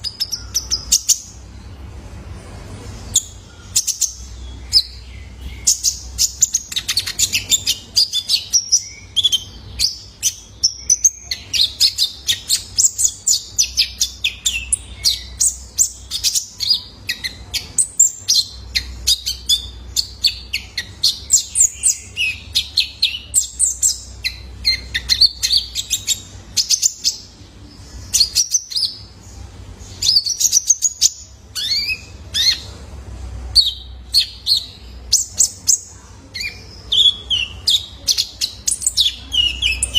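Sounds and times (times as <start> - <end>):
sunbird singing rapid chirps: 0.0 - 1.9, 3.0 - 32.8, 33.5 - 39.9.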